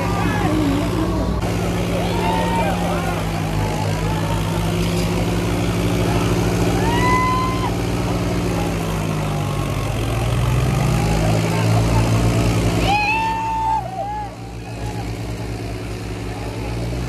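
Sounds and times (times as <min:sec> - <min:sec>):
tractor engines under heavy load: 0:00.0 - 0:17.0.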